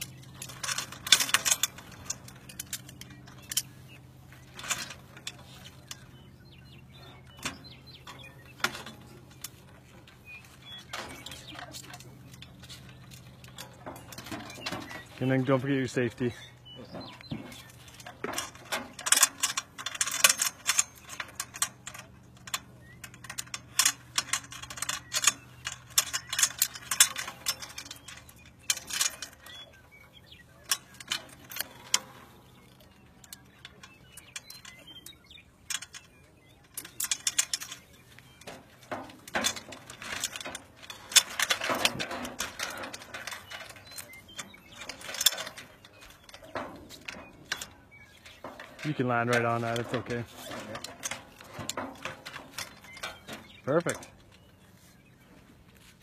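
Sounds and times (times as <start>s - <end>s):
metal clips clicking and clinking: 0.0s - 54.5s.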